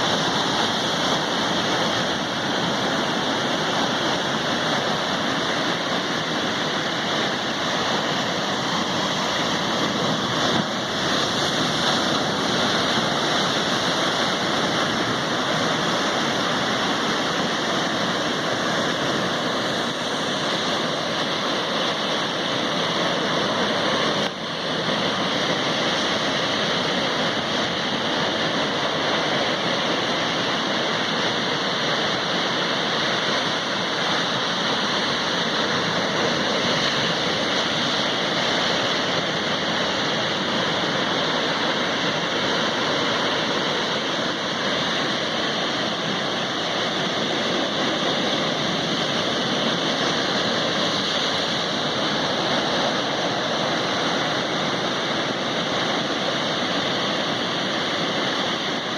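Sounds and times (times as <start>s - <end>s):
sea waves rushing: 0.0s - 58.9s.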